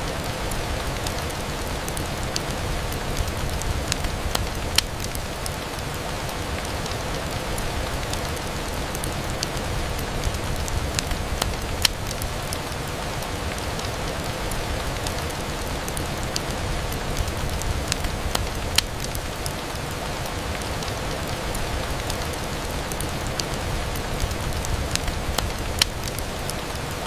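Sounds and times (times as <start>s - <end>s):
rain on a window: 0.0s - 27.0s.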